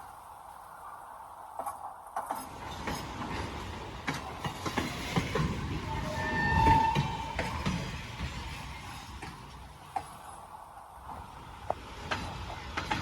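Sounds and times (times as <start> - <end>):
train rumble: 0.0 - 13.0
train wheels clicking over rail joints: 1.4 - 13.0.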